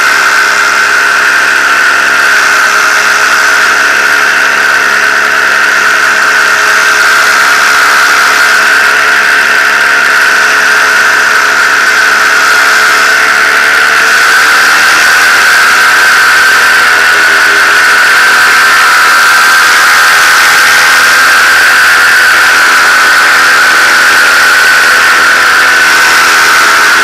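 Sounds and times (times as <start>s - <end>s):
paramotor engine buzzing: 0.0s - 27.0s.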